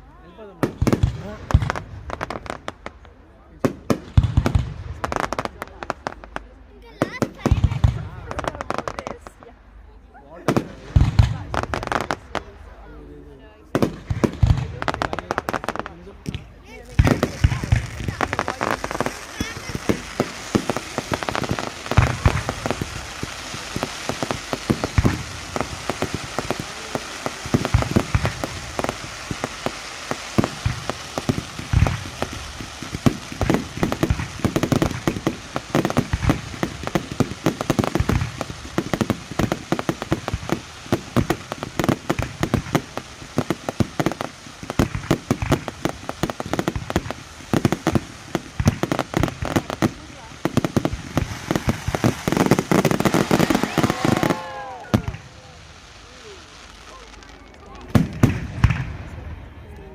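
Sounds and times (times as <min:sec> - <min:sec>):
continuous fireworks crackling: 0:00.0 - 0:59.9.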